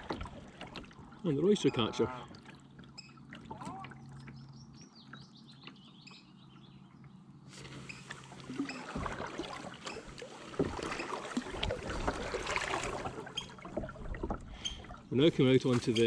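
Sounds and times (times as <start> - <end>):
paddle strokes splashing water: 0.0 - 6.0, 7.5 - 16.0.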